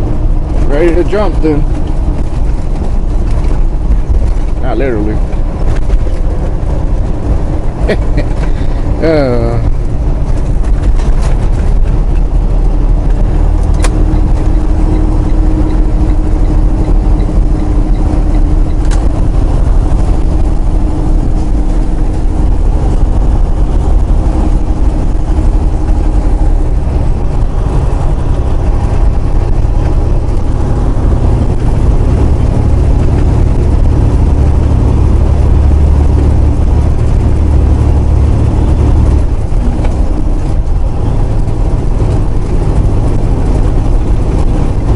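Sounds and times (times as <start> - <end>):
road noise: 0.0 - 44.9
truck engine drone: 0.0 - 44.9.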